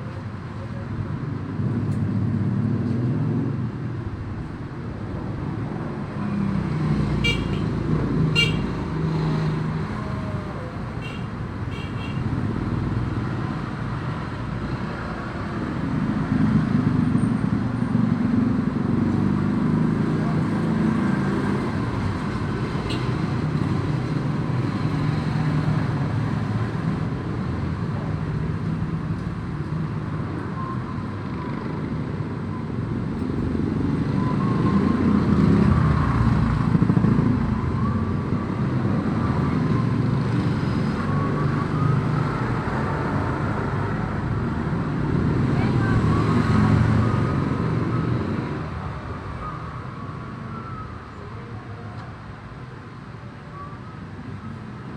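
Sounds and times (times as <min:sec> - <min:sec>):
traffic engines passing: 0:00.0 - 0:54.9.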